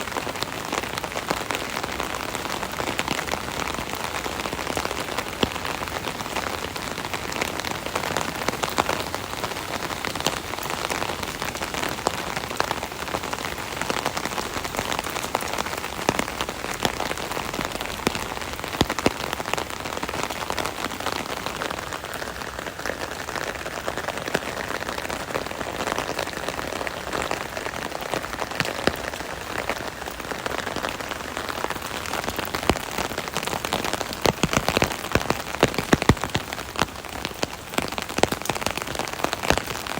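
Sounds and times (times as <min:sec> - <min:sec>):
heavy drips: 0:00.0 - 0:39.9
rain on an umbrella: 0:00.0 - 0:39.9.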